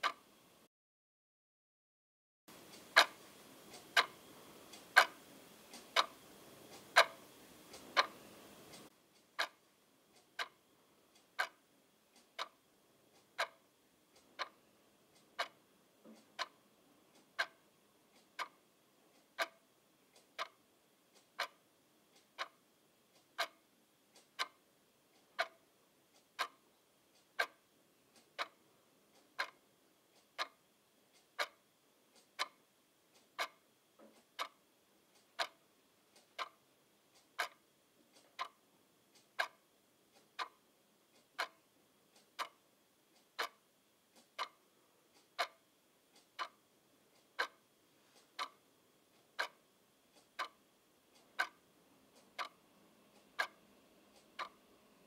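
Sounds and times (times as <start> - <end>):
clock ticking: 0.0 - 0.3, 2.5 - 55.0
faint hiss: 2.5 - 55.0.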